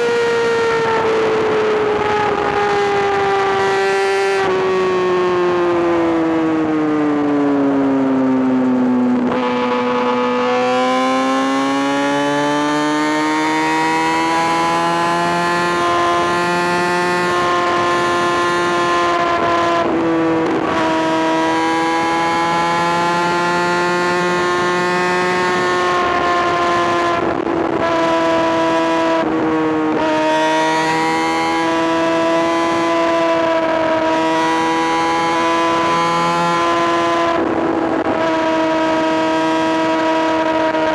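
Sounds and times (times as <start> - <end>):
motorcycle engine running hard: 0.0 - 40.9.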